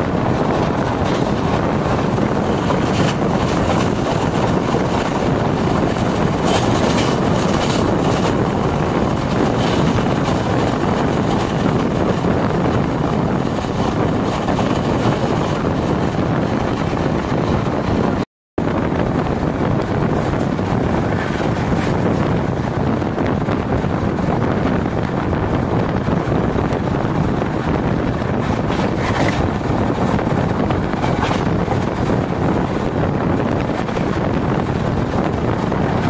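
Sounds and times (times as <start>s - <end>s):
train wheels rumbling on rails: 0.0s - 36.0s
wind rushing over microphone: 0.0s - 36.0s.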